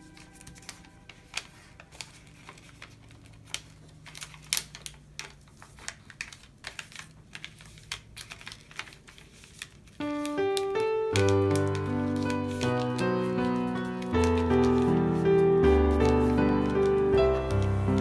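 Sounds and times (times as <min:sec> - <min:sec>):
paper folding and crinkling: 0:00.0 - 0:18.0.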